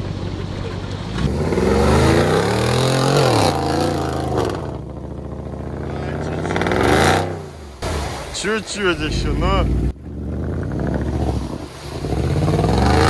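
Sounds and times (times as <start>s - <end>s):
suv engine revving: 0.0s - 8.2s, 8.8s - 13.0s.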